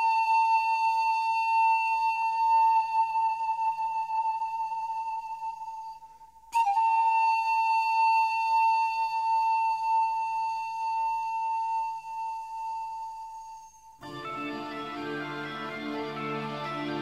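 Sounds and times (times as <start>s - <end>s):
flute-like wind instrument notes: 0.0s - 17.0s.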